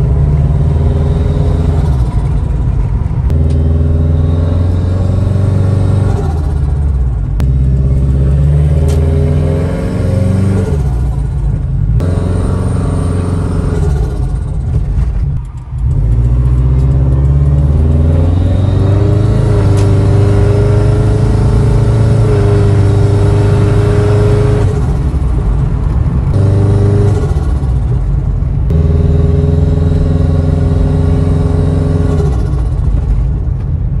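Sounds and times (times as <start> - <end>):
turbocharged car engine accelerating: 0.0 - 33.6.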